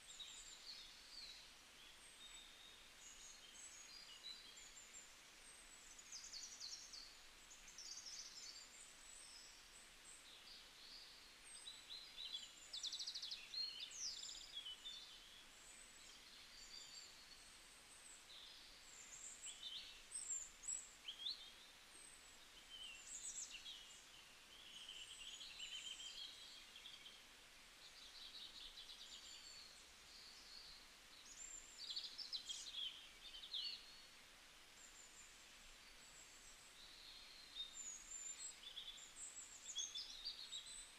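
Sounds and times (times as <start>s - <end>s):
low hiss: 0.0s - 40.9s
small birds chirping: 0.0s - 40.9s.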